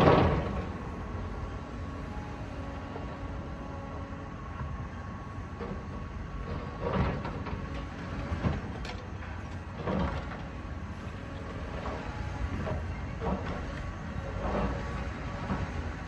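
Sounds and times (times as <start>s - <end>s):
excavator diesel rumble: 0.0s - 16.0s.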